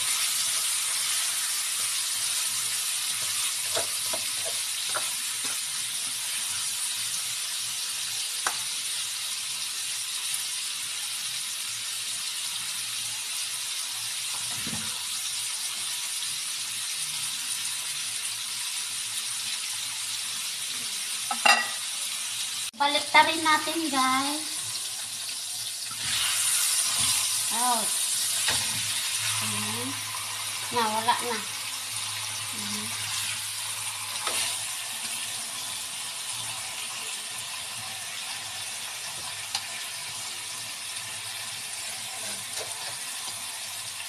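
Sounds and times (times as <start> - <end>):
chicken sizzling in a wok: 0.0 - 44.0.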